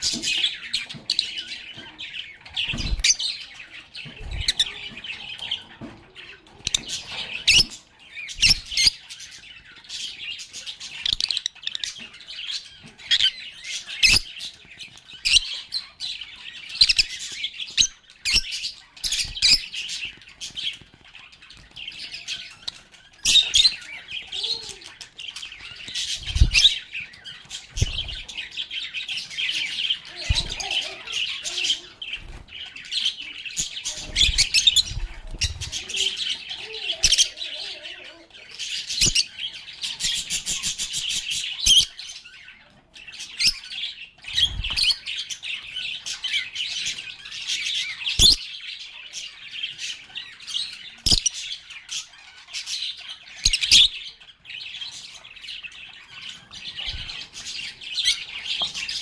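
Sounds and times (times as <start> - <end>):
birds chirping and chattering: 0.0 - 59.0.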